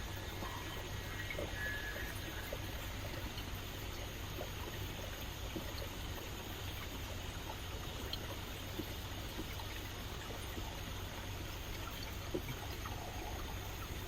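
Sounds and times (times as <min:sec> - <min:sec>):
stream rushing over rocks: 0:00.0 - 0:14.0
water trickles and drips: 0:00.0 - 0:14.0.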